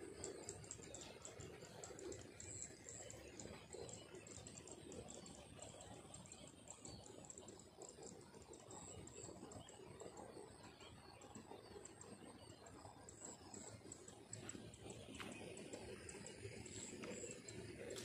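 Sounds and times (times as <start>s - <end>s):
rapid high-pitched ticking: 0.0s - 18.0s.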